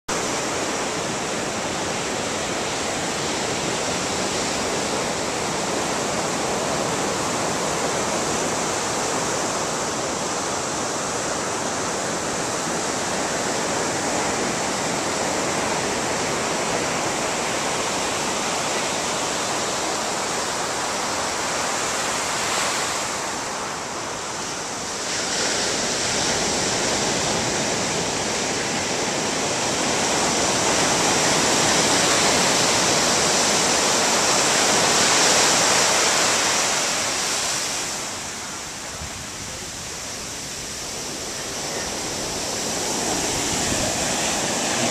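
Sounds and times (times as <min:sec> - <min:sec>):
ocean waves breaking on beach: 0:00.1 - 0:44.9.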